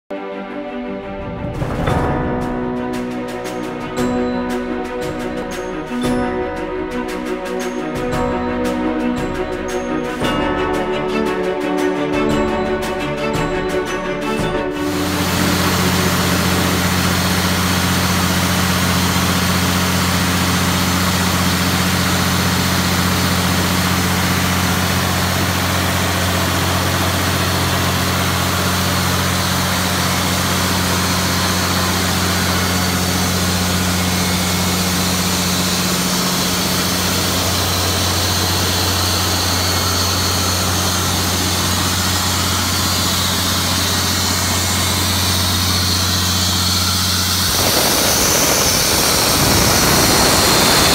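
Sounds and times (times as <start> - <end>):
diesel engine droning: 0.4 - 50.9
cooling fan rushing: 0.6 - 50.9.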